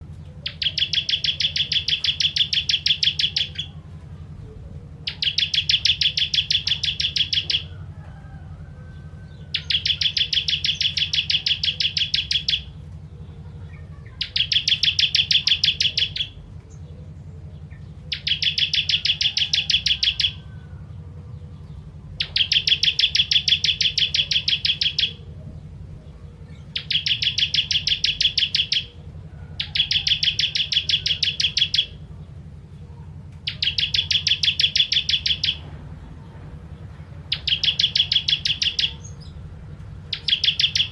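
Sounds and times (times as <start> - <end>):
bird singing rapid notes: 0.0 - 4.0, 4.9 - 7.9, 9.2 - 40.9
steady low hum: 0.0 - 40.9.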